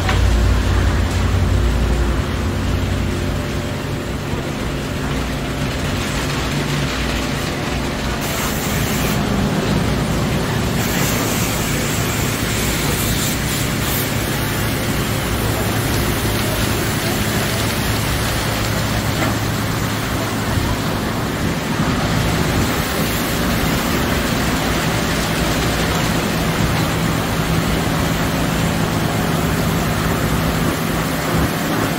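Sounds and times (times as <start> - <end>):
low machinery hum: 0.0 - 31.9
water spray rushing: 6.0 - 31.9.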